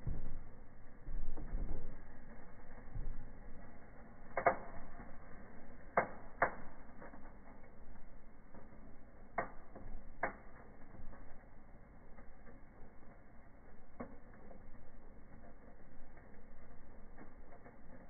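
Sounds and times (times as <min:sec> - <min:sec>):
firework pops and crackles in fire: 0:00.0 - 0:18.0.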